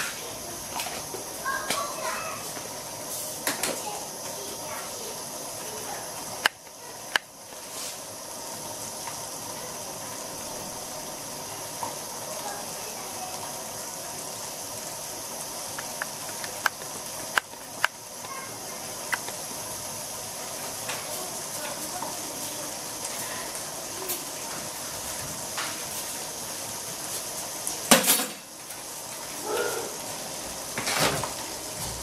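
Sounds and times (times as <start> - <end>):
sauce bubbling in a pan: 0.3 - 27.9.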